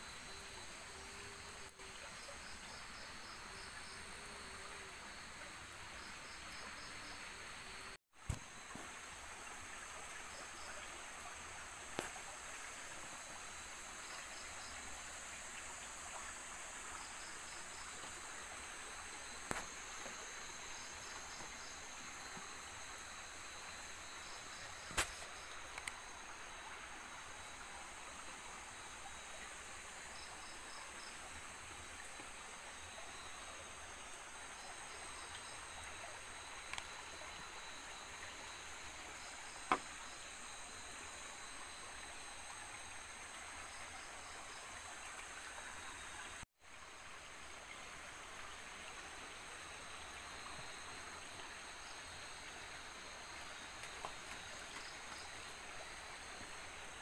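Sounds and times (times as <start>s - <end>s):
high insect drone: 0.0s - 46.4s, 47.2s - 57.0s
insect chirps: 0.0s - 57.0s.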